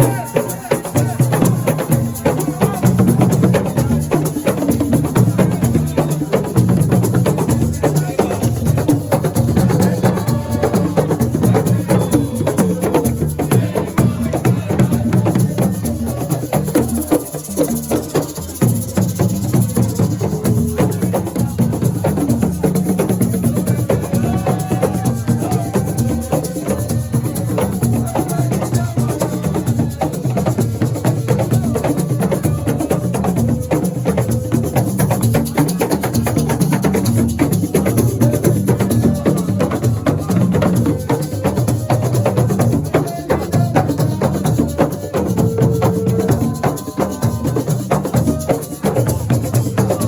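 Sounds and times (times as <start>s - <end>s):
fast percussion drumming: 0.0s - 50.0s.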